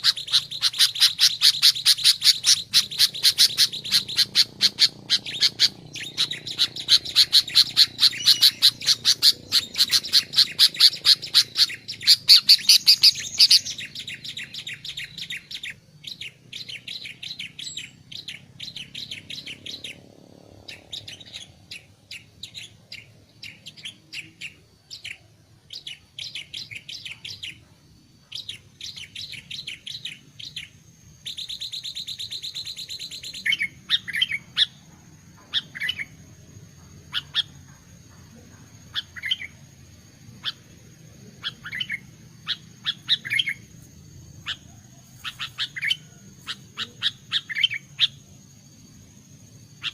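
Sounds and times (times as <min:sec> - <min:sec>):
bird trilling: 0:00.0 - 0:27.6, 0:28.3 - 0:38.0, 0:38.8 - 0:48.4
bird chirping: 0:00.0 - 0:49.9.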